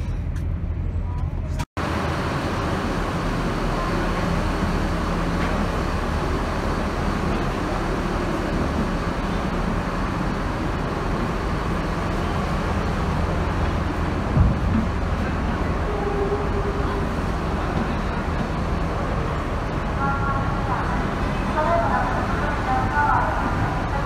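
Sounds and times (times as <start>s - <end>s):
ferry engines rumbling: 0.0s - 24.0s.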